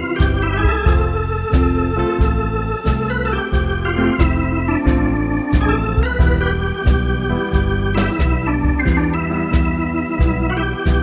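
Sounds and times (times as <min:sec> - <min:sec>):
organ keyboard chords: 0:00.0 - 0:11.0
steady beat: 0:00.0 - 0:11.0.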